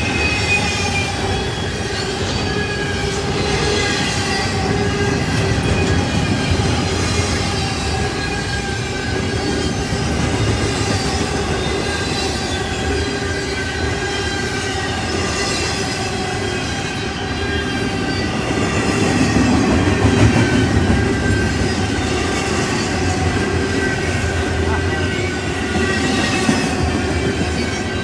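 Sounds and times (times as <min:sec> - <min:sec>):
train rumble: 0:00.0 - 0:28.0
train wheels squealing: 0:00.0 - 0:28.0.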